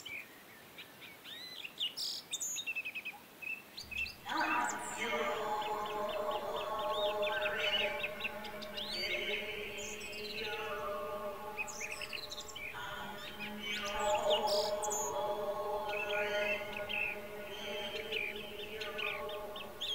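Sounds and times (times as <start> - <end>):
small birds chirping: 0.0 - 19.9
slow sustained chanting: 3.9 - 19.9.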